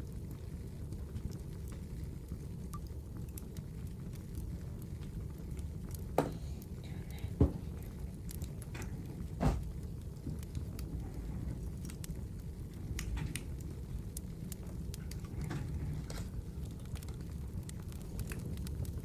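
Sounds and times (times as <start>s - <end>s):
loud fire pops: 0.0s - 19.0s
steady low rumble: 0.0s - 19.0s
wood fire crackling: 0.0s - 19.0s.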